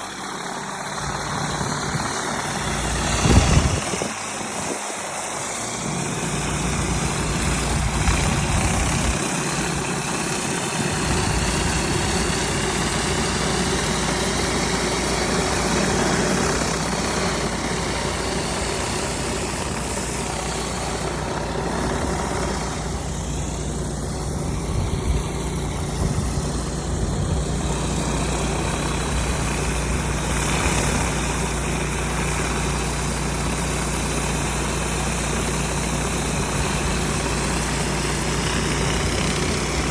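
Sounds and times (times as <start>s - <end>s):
high-pressure water spray hiss: 0.0s - 39.9s
pressure washer engine running: 0.0s - 39.9s.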